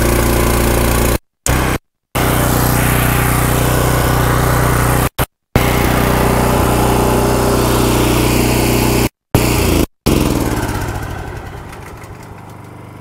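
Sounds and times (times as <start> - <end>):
pressure washer engine running: 0.0 - 13.0.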